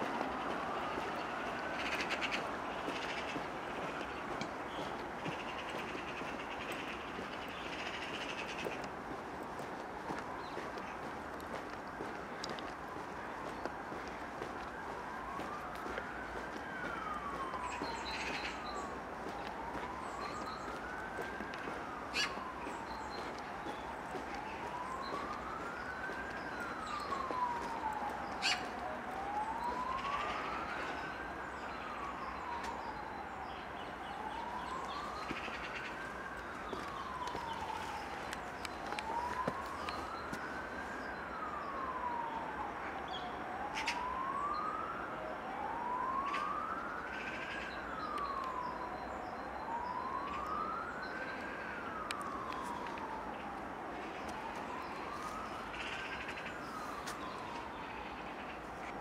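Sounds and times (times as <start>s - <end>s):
emergency siren wailing: 0.0s - 59.0s.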